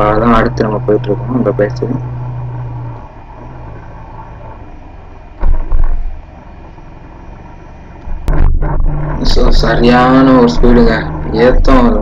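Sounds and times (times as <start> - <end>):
motorcycle ride noise: 0.0 - 12.0.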